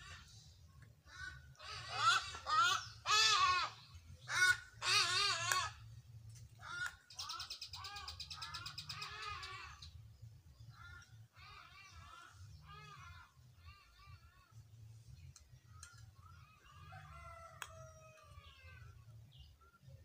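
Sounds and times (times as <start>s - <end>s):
birds wavering calls: 0.0s - 20.0s.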